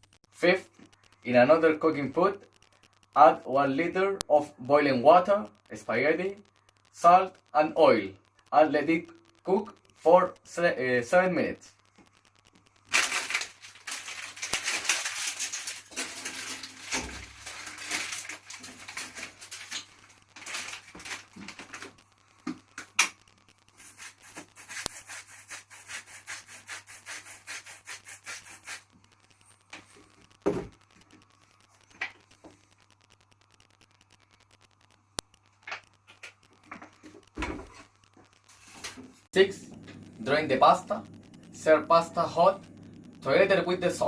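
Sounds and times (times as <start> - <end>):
crackling and rubbing noise: 0.0 - 44.0.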